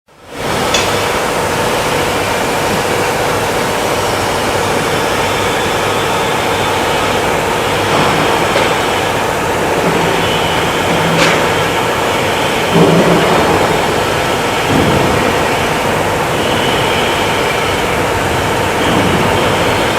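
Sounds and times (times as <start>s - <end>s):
loud machinery noise: 0.1s - 19.9s.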